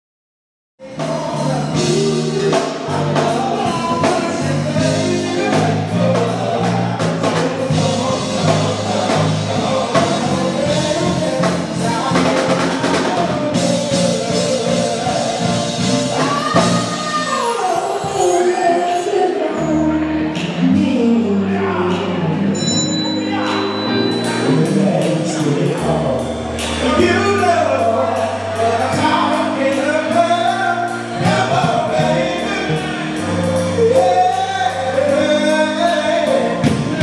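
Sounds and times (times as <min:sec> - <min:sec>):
band playing a song: 0:00.8 - 0:37.0
man singing: 0:00.8 - 0:37.0.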